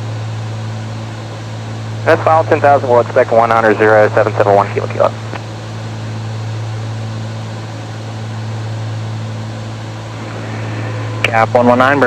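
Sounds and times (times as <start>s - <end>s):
aircraft propeller engines droning: 0.0s - 12.0s.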